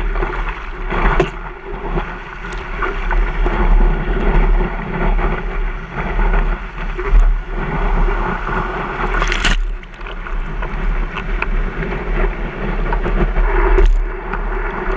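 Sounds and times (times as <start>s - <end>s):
steady low rumble: 0.0s - 14.9s
wind buffeting microphone: 0.0s - 14.9s.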